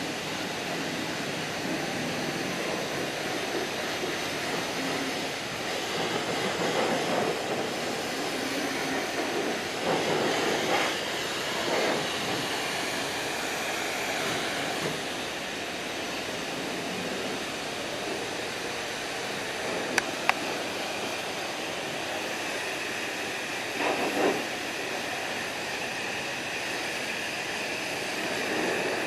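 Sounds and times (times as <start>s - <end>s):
pressure washer spraying water: 0.0s - 29.0s.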